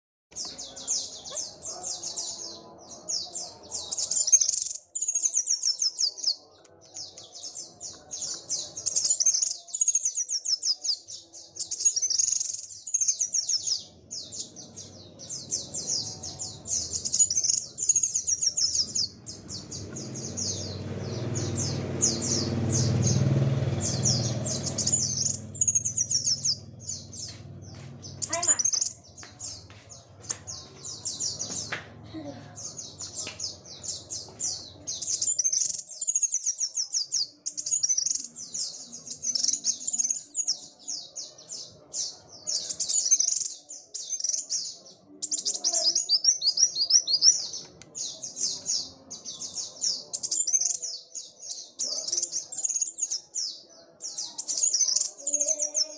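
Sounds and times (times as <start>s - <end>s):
bird singing trills: 0.3s - 55.9s.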